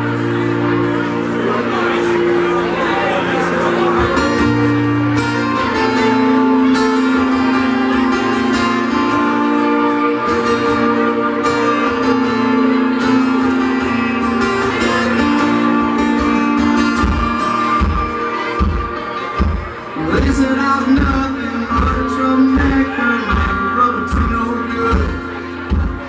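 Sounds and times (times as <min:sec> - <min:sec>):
guitar with long held notes: 0:00.0 - 0:26.0
live country band playing: 0:00.0 - 0:26.0.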